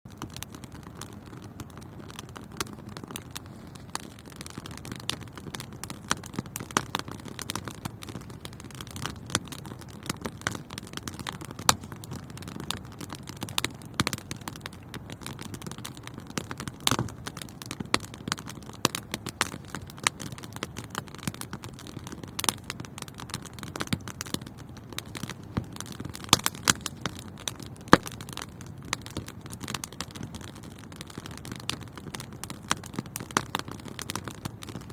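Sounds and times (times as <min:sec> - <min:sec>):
wood fire crackling and popping: 0:00.1 - 0:34.9.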